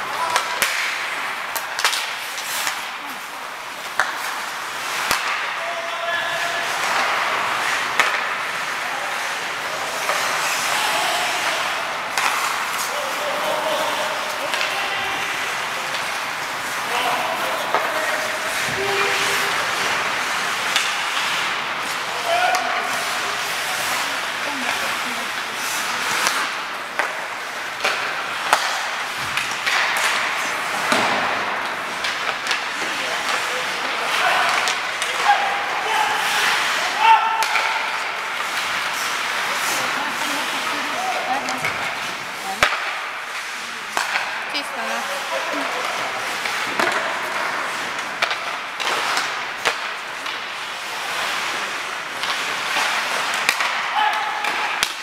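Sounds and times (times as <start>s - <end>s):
skates scraping ice: 0.0s - 55.0s
sticks hitting puck: 0.0s - 55.0s.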